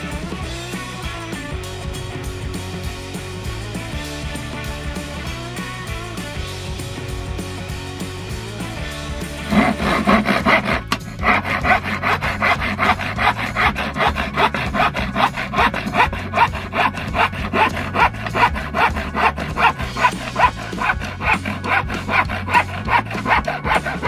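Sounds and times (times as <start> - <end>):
handsaw cutting wood: 0.0 - 6.4, 8.3 - 24.0.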